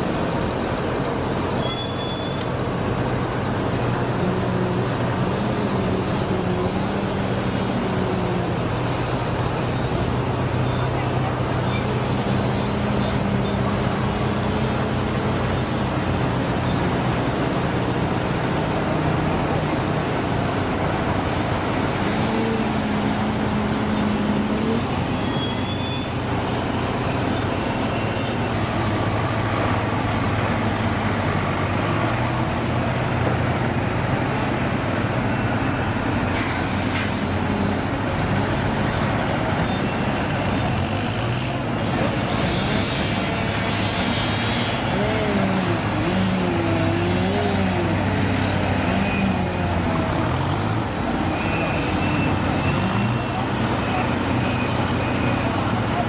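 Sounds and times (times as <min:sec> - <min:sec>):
heavy truck engines running: 0:00.0 - 0:56.0.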